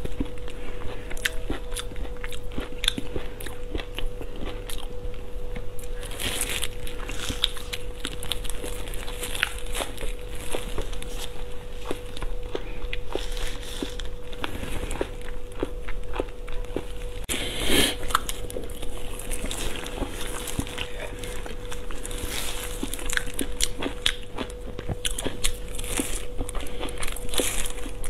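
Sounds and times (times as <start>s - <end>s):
chewing and wet mouth sounds: 0.0s - 28.0s
faint steady hum: 0.0s - 28.0s.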